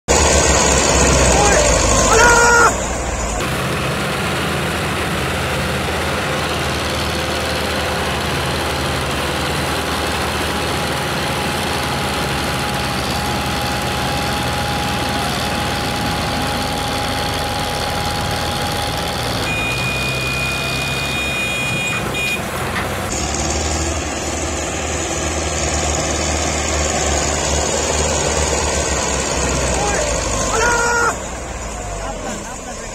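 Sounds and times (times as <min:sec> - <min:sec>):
tractor diesel engines under load: 0:00.1 - 0:32.9.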